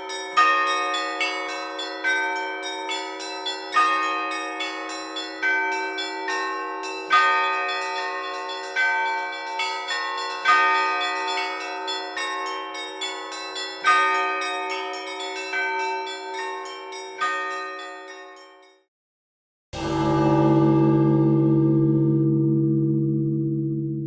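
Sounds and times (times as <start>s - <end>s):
church bells ringing: 0.0s - 18.7s, 19.8s - 24.0s.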